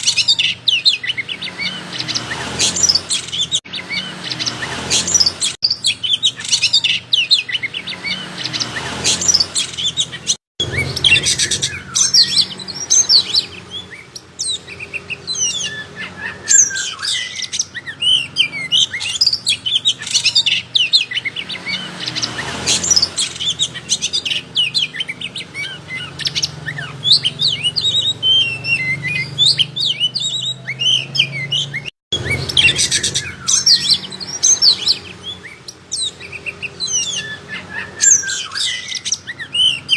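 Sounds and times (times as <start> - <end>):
bird whistling and chirping: 0.0 - 39.9.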